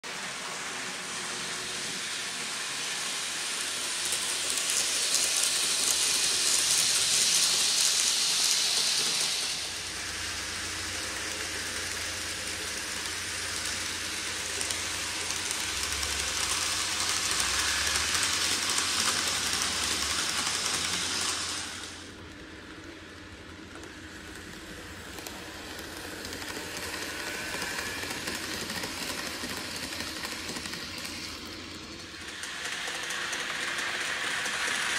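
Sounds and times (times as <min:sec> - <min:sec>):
model train whirring on track: 0:00.0 - 0:34.9.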